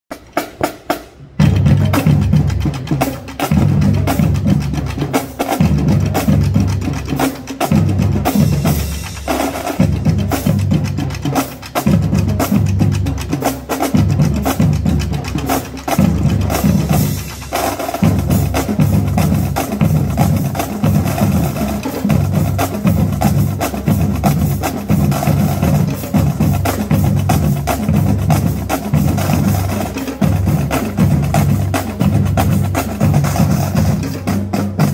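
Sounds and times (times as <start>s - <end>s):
marching drum line with cymbals: 0.1s - 34.9s.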